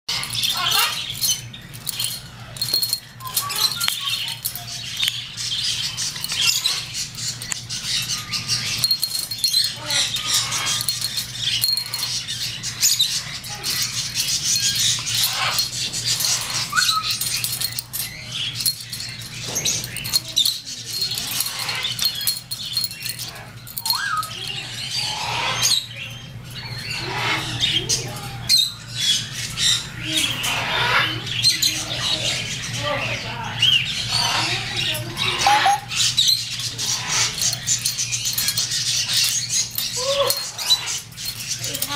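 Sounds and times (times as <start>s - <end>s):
parrot chirping: 0.1s - 27.8s, 32.8s - 41.9s
toy rattling against cage wire: 0.1s - 41.9s.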